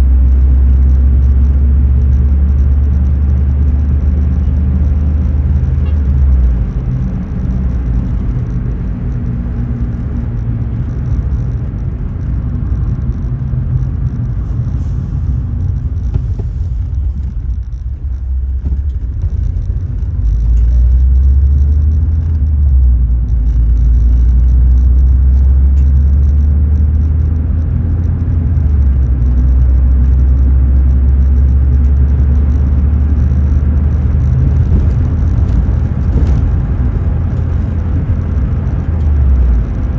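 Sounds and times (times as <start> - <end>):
car rumbling inside cabin: 0.0 - 39.9.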